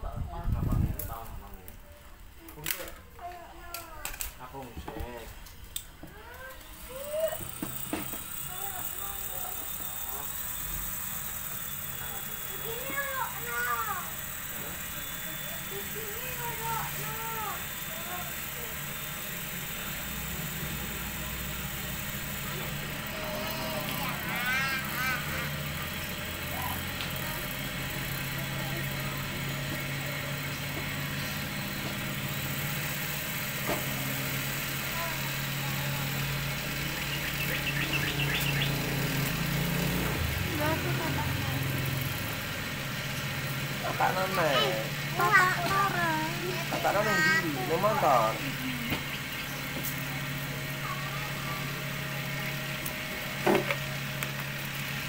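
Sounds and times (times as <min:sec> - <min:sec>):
cotton candy machine motor hum: 0:00.0 - 0:55.0.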